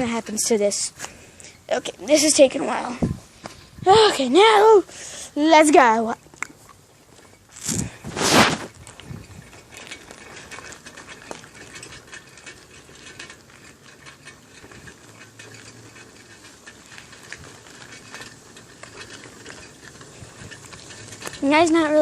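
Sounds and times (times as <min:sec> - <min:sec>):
bicycle rattles and clicks: 0:00.0 - 0:22.0
bicycle tyres rolling: 0:00.0 - 0:22.0.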